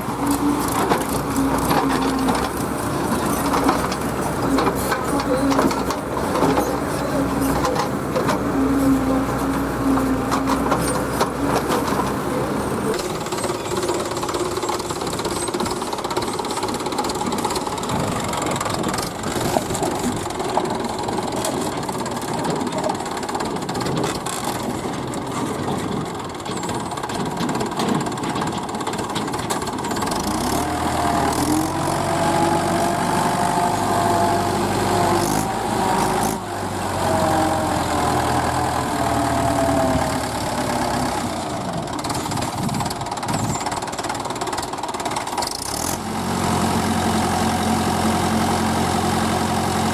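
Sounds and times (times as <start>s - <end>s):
farm machine diesel engine revving: 0.0s - 49.9s.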